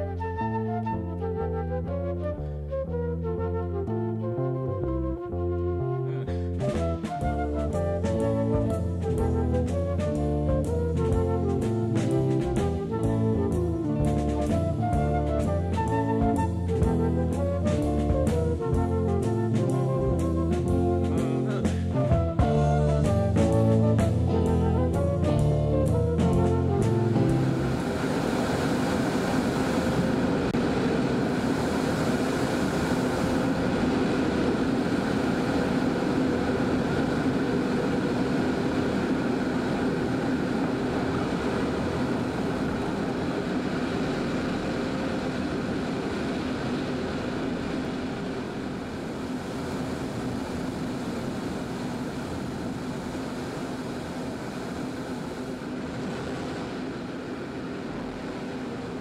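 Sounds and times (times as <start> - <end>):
propeller airplane engine drone: 0.0 - 59.0.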